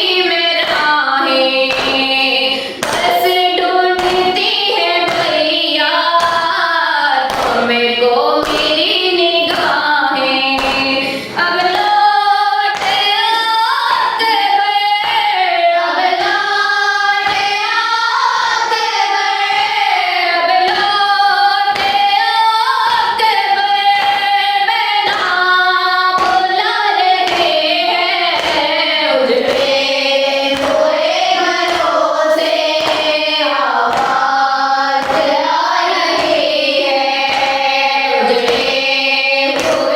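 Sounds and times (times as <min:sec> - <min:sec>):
group singing a slow lament: 0:00.0 - 0:39.9.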